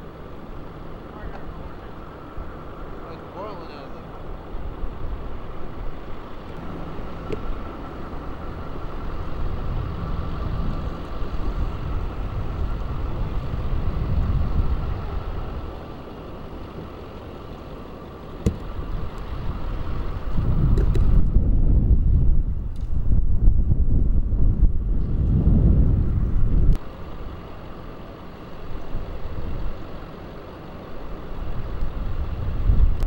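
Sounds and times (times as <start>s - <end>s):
low rumbling: 0.0s - 27.6s
vehicle engine whining: 0.0s - 33.0s.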